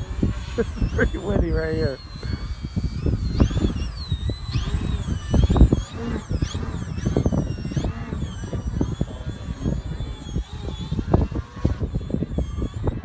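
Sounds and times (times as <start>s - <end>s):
model plane motor whine: 0.0s - 13.0s
wind buffeting microphone: 0.0s - 13.0s.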